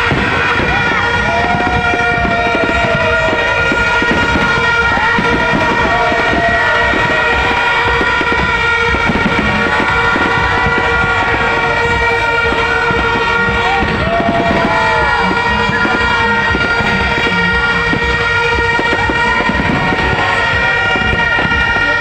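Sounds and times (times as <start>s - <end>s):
fireworks crackling and popping: 0.0s - 22.0s
horns blaring: 0.0s - 22.0s.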